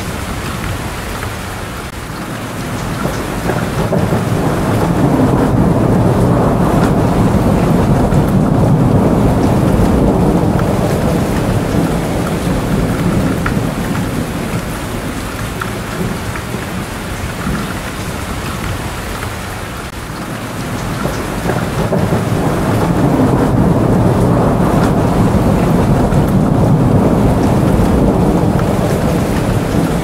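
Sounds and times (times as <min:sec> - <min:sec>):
low rolling thunder: 0:00.0 - 0:30.0
steady rain: 0:00.0 - 0:30.0.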